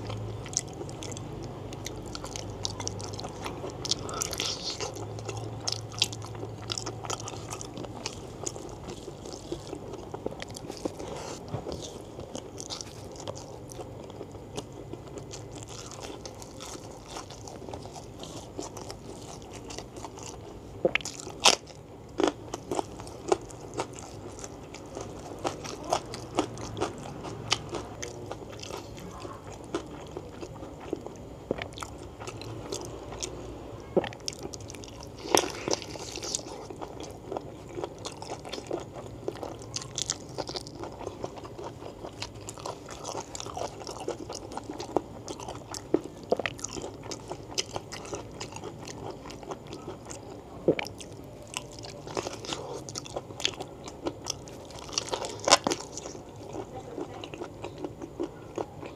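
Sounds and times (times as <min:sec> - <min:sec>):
wet chewing and biting: 0:00.0 - 0:33.4, 0:34.0 - 0:58.9.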